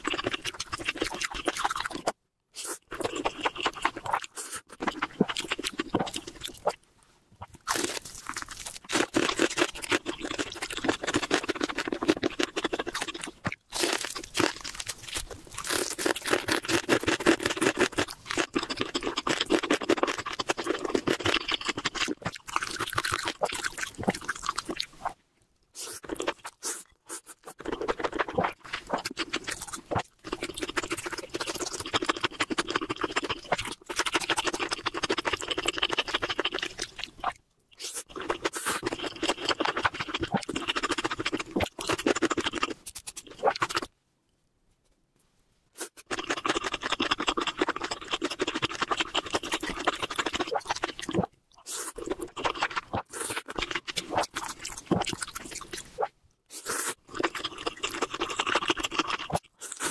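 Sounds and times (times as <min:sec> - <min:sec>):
crunchy chewing: 0:07.5 - 0:25.2, 0:25.8 - 0:43.9, 0:45.8 - 0:59.9.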